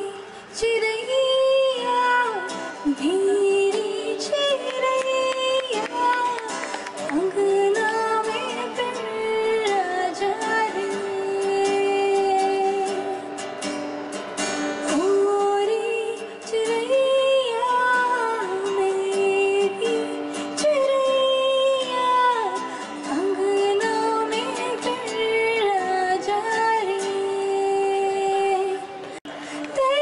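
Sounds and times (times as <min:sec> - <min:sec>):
woman singing: 0:00.0 - 0:13.5, 0:14.7 - 0:30.0
acoustic guitar: 0:00.0 - 0:30.0.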